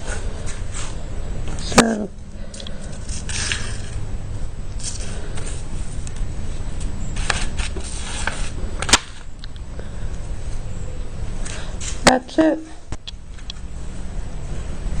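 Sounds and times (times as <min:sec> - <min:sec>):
steady low rumble: 0:00.0 - 0:12.1.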